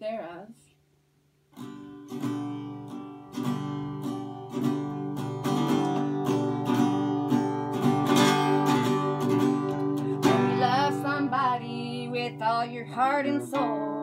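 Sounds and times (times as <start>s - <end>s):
acoustic guitar strumming chords: 1.6s - 14.0s.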